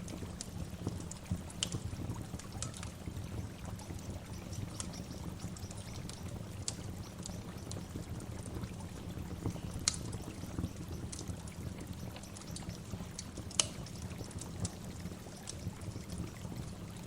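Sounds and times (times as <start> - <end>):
water splashes and drips: 0.0 - 17.0.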